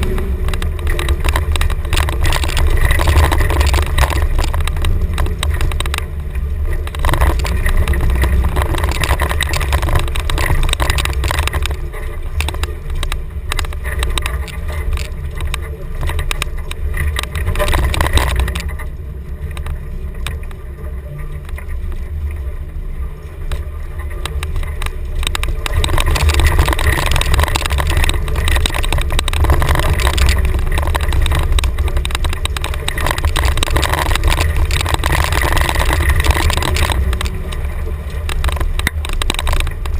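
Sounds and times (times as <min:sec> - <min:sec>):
off-road vehicle engine rumbling: 0:00.0 - 0:39.9.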